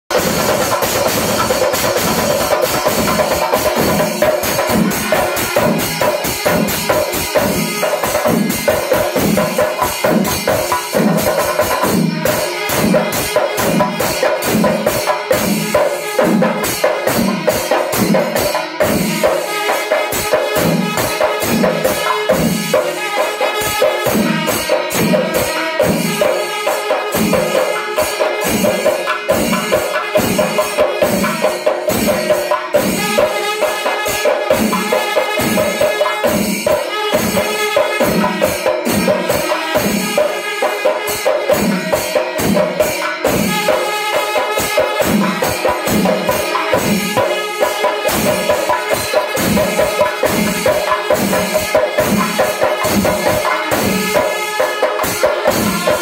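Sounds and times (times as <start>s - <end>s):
chenda drums: 0.1s - 56.0s
cymbals: 0.1s - 56.0s.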